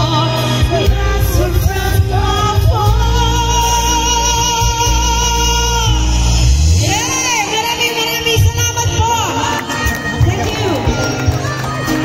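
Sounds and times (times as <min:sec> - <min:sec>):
amplified backing music: 0:00.0 - 0:12.0
woman singing into a microphone: 0:00.0 - 0:12.0.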